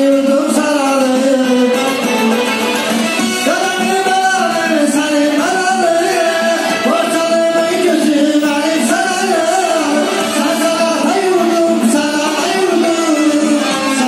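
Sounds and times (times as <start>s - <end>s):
amplified backing music: 0.0s - 14.0s
man singing into microphone: 0.0s - 14.0s.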